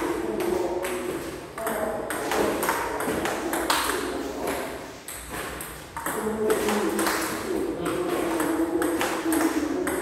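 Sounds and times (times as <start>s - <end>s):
ping pong ball clicking: 0.3s - 10.0s.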